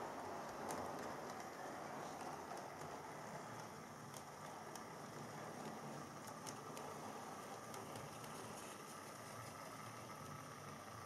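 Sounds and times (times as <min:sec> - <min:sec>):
model train motor hum: 0:00.0 - 0:11.0.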